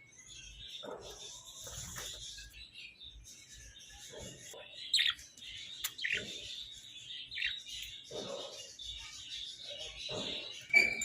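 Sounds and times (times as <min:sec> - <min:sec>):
budgerigars chattering and warbling: 0:00.2 - 0:11.0.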